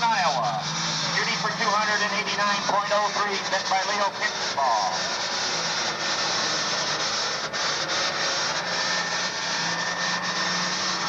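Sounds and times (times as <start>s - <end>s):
tractor diesel engine running hard: 0.0s - 11.0s.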